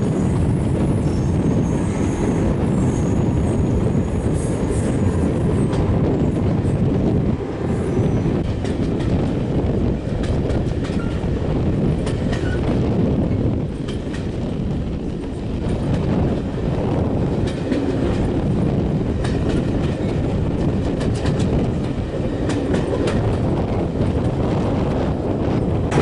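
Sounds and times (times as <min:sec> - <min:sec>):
rail clicks: 0:00.0 - 0:26.0
train engine and wheels rumbling: 0:00.0 - 0:26.0.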